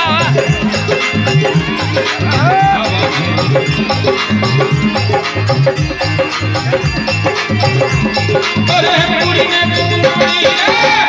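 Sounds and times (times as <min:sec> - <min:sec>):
fast percussion beat: 0:00.0 - 0:11.0
wavering melody line: 0:00.0 - 0:11.0.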